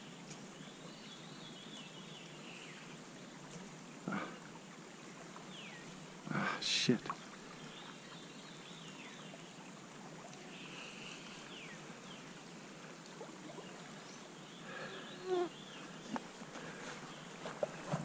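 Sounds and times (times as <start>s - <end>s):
stream flowing: 0.0s - 18.0s.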